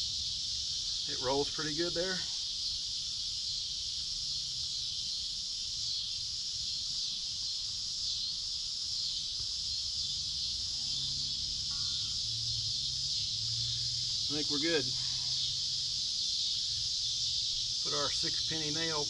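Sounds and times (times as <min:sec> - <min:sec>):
insects shrill drone: 0:00.0 - 0:19.0.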